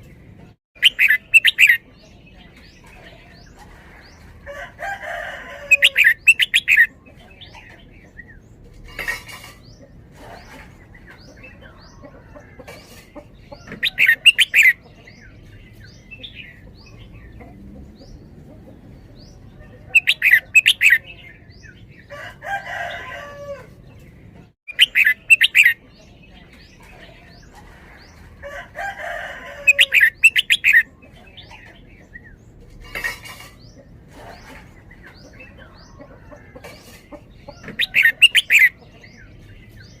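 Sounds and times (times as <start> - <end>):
bird singing rapid phrases: 0.0 - 40.0.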